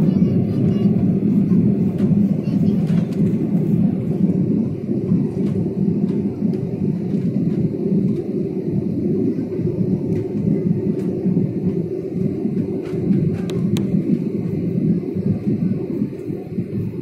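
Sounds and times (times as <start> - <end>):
jet engines roaring in cabin: 0.0 - 17.0.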